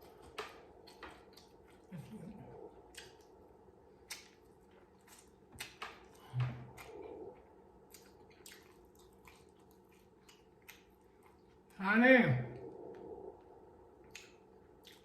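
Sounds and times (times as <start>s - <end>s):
chewing with mouth clicks: 0.0s - 11.7s, 12.6s - 15.0s.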